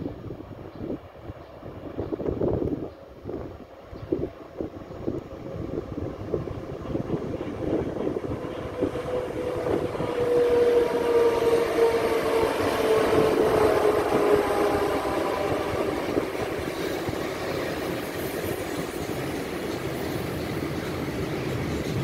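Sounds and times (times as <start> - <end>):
locomotive whine: 0.0 - 22.0
train wheels rumbling on rail: 0.0 - 22.0.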